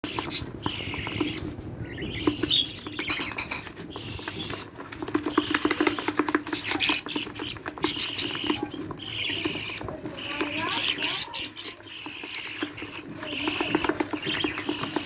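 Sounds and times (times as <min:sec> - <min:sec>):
budgerigar chicks chirping: 0:00.0 - 0:15.0.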